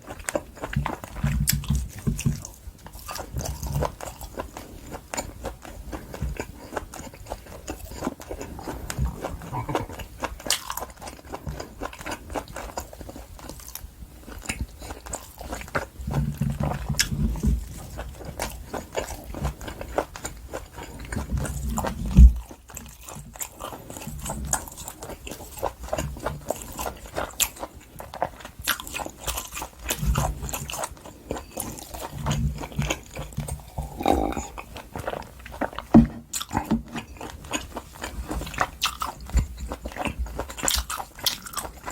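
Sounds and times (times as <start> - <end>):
chewing steak: 0.0 - 41.9.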